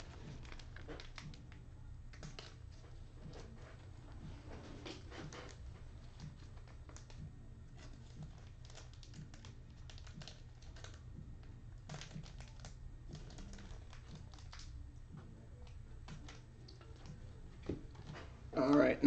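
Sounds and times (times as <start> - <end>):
faint keyboard typing: 0.0 - 19.0.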